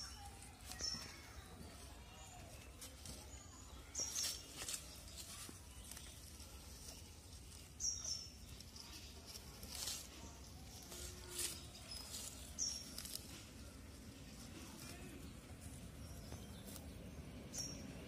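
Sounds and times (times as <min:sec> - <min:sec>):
bird chirping: 0:00.0 - 0:18.0
faint outdoor background: 0:00.0 - 0:18.0.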